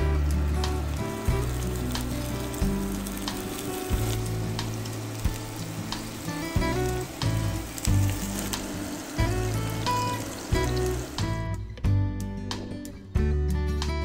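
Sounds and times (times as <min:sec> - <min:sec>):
patties sizzling in hot oil: 0:00.0 - 0:11.5
background music: 0:00.0 - 0:14.0.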